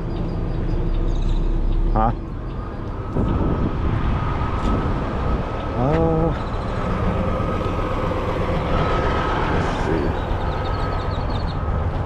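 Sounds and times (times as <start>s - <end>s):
road noise: 0.0s - 12.0s
vehicle engines rumbling: 0.0s - 12.0s.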